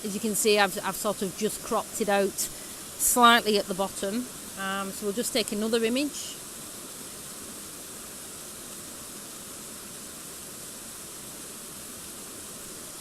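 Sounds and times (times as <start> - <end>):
waterfall pouring over rocks: 0.0 - 13.0.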